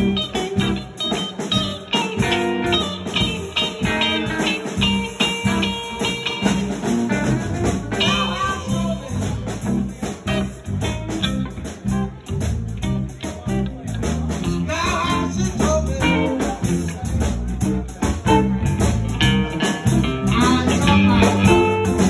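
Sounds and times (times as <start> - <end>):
bass guitar: 0.0 - 22.0
drums: 0.0 - 22.0
electric guitar lead: 0.0 - 22.0.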